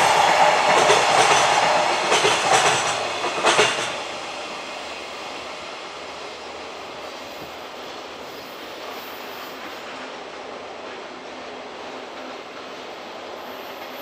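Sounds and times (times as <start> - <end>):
train wheels on track: 0.0 - 14.0.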